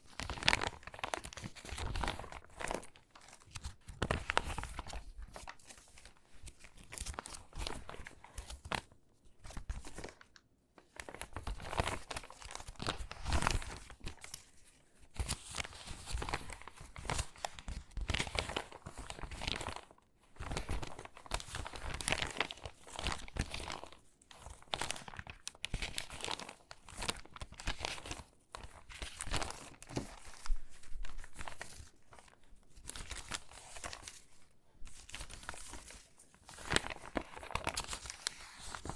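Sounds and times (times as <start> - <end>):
crinkly paper crackling and rustling: 0.0 - 38.9.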